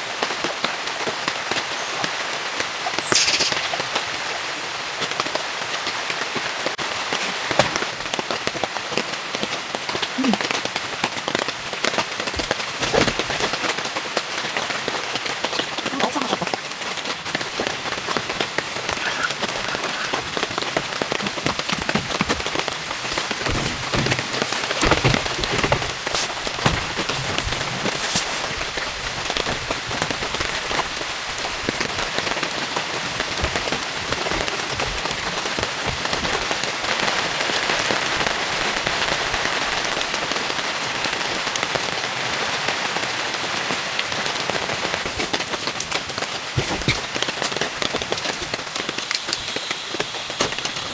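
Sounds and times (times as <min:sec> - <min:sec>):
steady rain pattering: 0:00.0 - 0:50.9.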